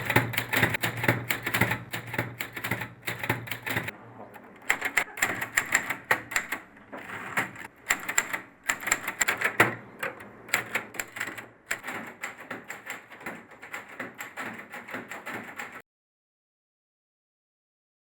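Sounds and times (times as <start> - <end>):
typewriter keys clacking: 0.0 - 3.9, 4.6 - 15.8.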